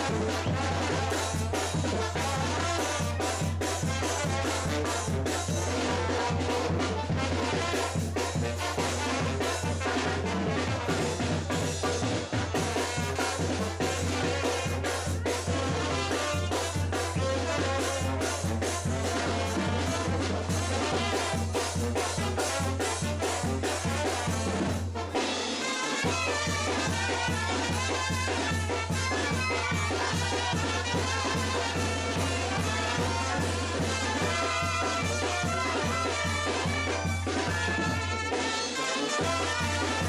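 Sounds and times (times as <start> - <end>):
upbeat dance music with brass: 0.0 - 40.0.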